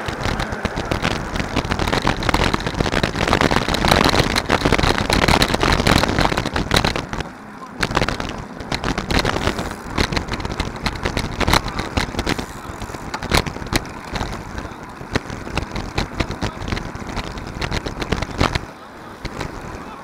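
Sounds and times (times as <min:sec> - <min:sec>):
bike clicks and knocks: 0:00.0 - 0:20.0
road rumble: 0:00.0 - 0:20.0
wind rushing over camera: 0:00.0 - 0:20.0.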